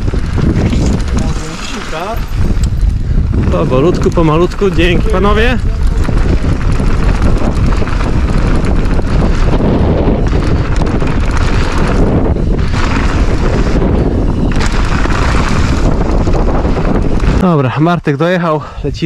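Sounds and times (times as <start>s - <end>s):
bike tyre and frame rattle: 0.0s - 18.3s
wind buffeting microphone: 0.0s - 19.0s.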